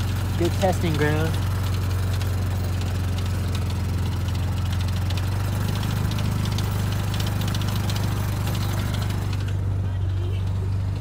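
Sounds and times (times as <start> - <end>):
atv engine low drone: 0.0 - 11.0.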